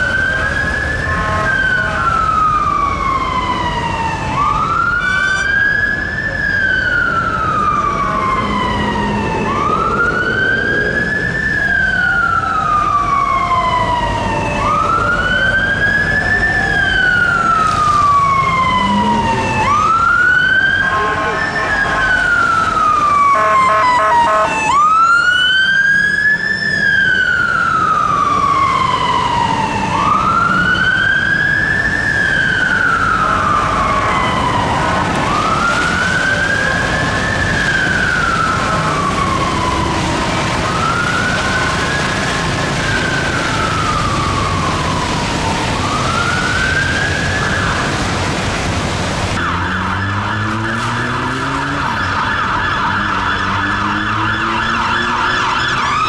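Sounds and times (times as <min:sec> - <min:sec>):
fast-warbling siren: 0:00.0 - 0:48.1, 0:49.4 - 0:56.0
fire engine siren wailing: 0:00.0 - 0:56.0
traffic noise: 0:00.0 - 0:56.0.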